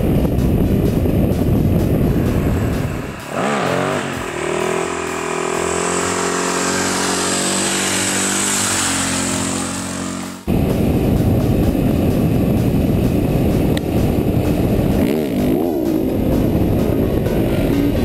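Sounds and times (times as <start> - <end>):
wind noise: 0.0 - 9.6, 10.4 - 18.0
motorcycle engine revving: 0.1 - 18.0.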